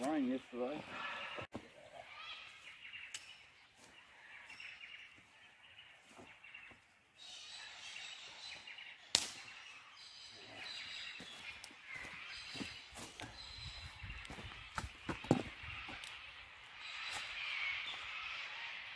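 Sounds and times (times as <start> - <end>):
birds calling: 0.0 - 18.9.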